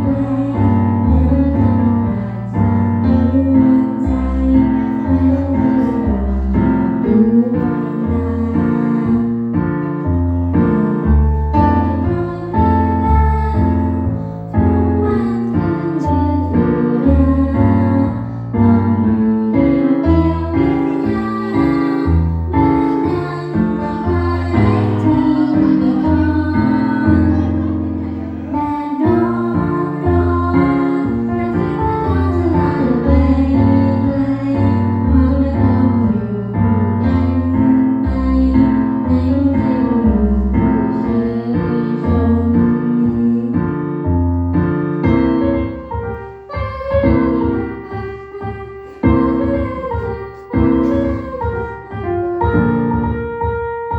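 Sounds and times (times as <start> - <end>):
woman singing pop song: 0.0 - 9.8, 10.4 - 43.8, 45.4 - 53.2
piano: 0.0 - 53.9.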